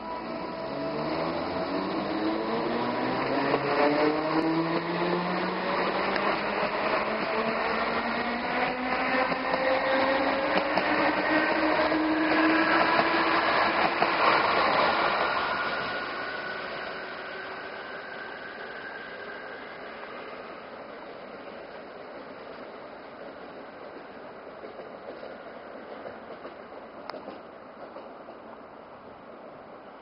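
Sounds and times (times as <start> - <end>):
wheels rumbling on rails: 0.0 - 28.6.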